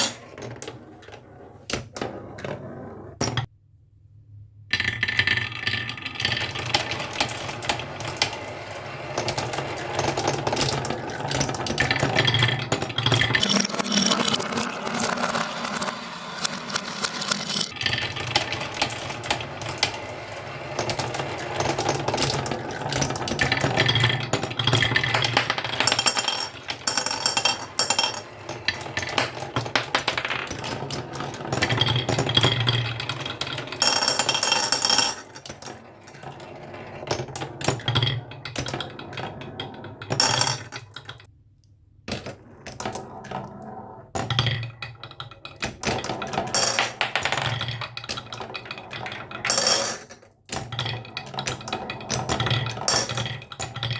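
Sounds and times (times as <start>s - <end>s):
marbles clattering down marble run: 4.7s - 41.3s, 42.1s - 53.9s.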